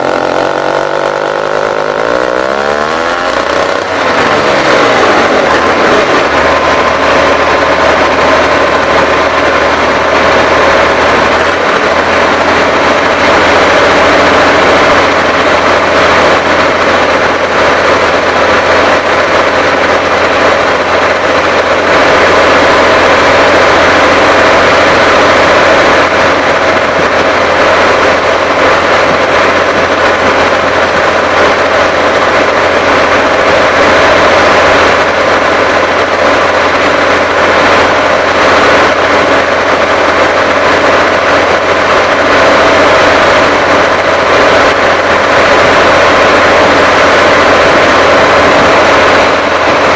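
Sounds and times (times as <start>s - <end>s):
pump engine running loudly: 0.0s - 49.9s.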